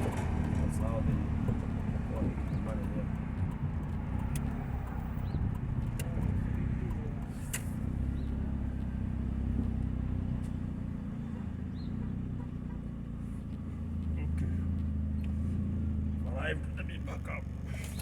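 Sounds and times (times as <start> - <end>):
car engine with leaking exhaust: 0.0 - 18.0.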